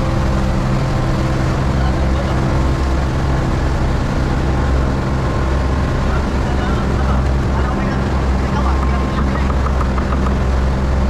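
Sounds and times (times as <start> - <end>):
boat engine droning: 0.0 - 11.0
water wash: 0.0 - 11.0
wind: 0.0 - 11.0.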